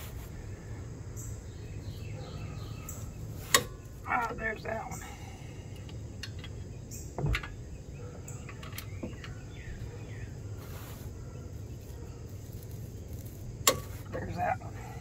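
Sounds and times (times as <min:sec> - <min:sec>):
birds chirping: 0:00.0 - 0:15.0
insects: 0:00.0 - 0:15.0.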